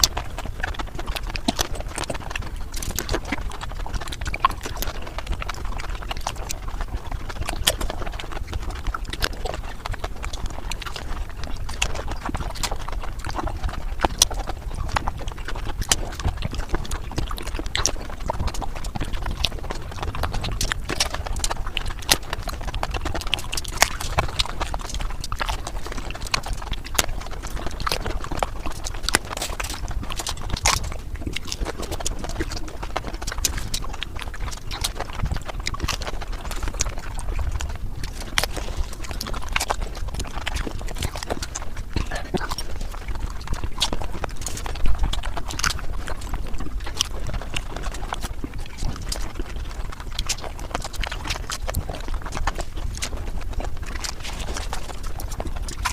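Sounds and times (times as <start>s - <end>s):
sped-up crunching and chewing: 0.0s - 55.9s.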